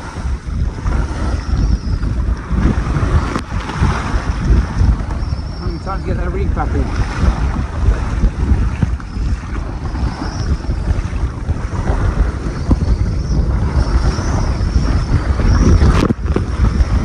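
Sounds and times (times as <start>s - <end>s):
rough sea waves splashing: 0.0s - 17.0s
wind rumble on microphone: 0.0s - 17.0s.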